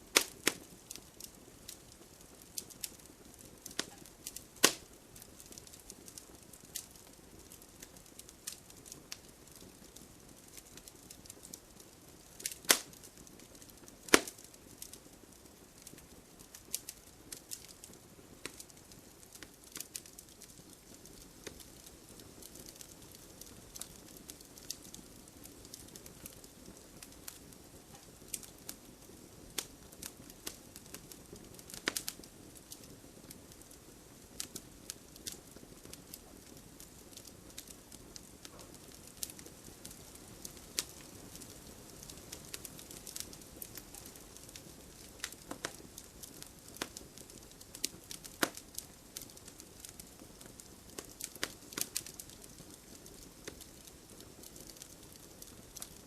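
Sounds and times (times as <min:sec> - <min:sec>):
sharp pops from fire: 0:00.0 - 0:56.0
wood fire crackling: 0:00.0 - 0:56.0.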